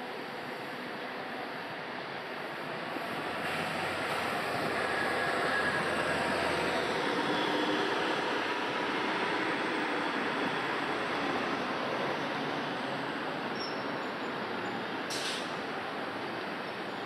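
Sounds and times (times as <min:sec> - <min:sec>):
passing vehicle engines and tyres: 0:02.7 - 0:17.0.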